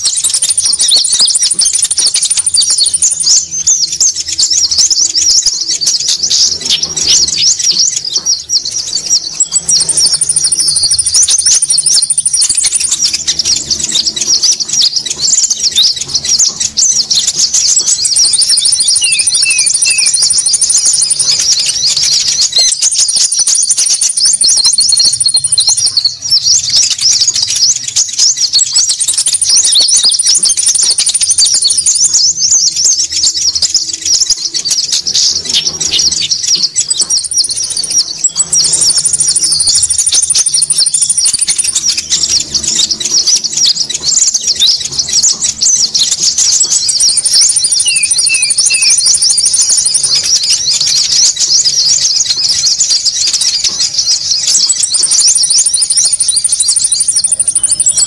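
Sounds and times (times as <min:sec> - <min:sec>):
rapid high bird chattering: 0:00.0 - 0:58.0.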